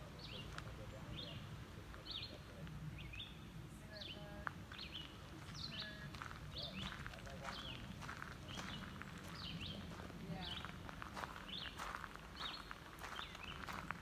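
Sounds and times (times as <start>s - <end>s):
songbird high chirps: 0.2s - 13.9s.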